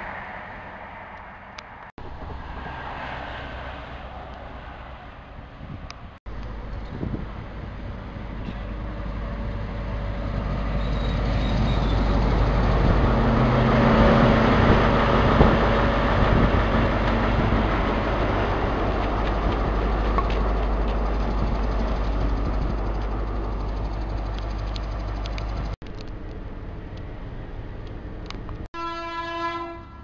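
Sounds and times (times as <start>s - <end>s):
diesel train engine drone: 0.0s - 30.0s
train wheel rumble: 5.8s - 30.0s.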